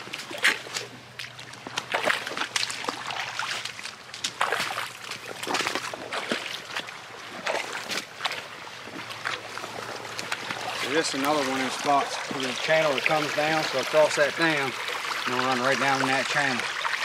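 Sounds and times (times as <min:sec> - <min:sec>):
footsteps sloshing through water: 0:00.0 - 0:17.0.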